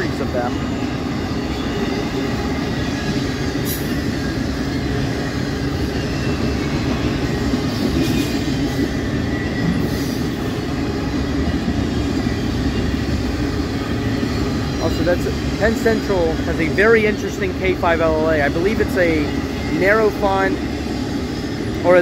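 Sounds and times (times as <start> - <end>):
faint high wheel squeal: 0.0 - 22.0
train wheels rumbling on rails: 0.0 - 22.0.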